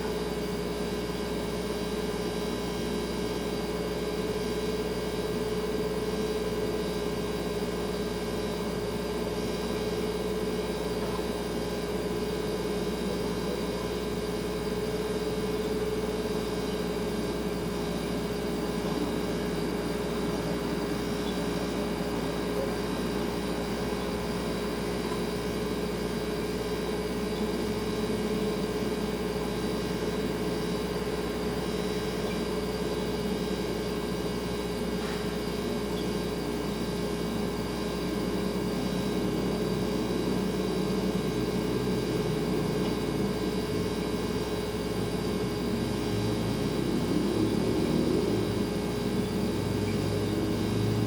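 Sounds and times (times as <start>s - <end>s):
refrigerator humming: 0.0s - 51.0s.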